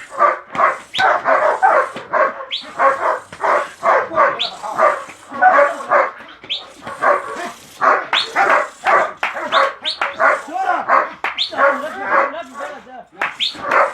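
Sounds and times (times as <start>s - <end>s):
dog barking rapidly: 0.0s - 13.9s.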